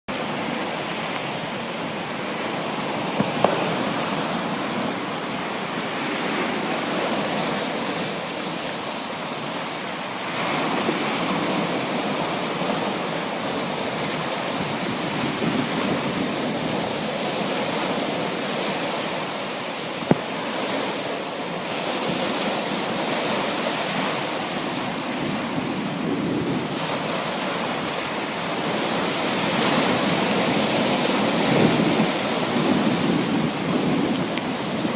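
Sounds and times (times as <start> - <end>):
waves breaking and washing in: 0.1 - 34.9.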